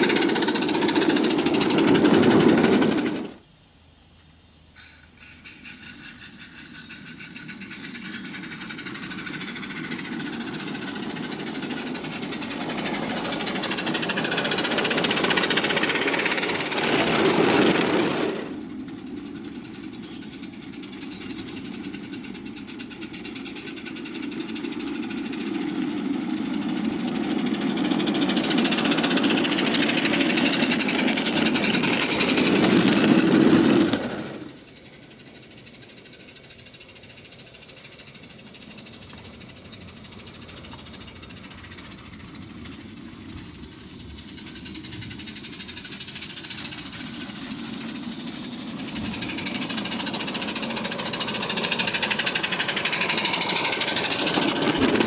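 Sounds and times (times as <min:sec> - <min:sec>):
wheels on rails: 0:00.0 - 0:03.5, 0:04.2 - 0:55.0
steam locomotive exhaust beat: 0:00.0 - 0:55.0.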